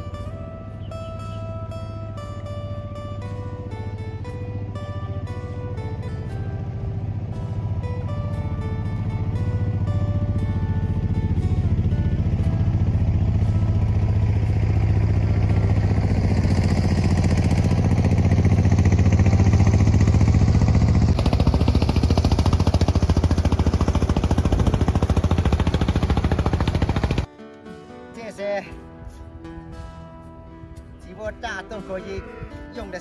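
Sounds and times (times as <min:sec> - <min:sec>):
engine running with rapid pulse: 0:00.0 - 0:27.3.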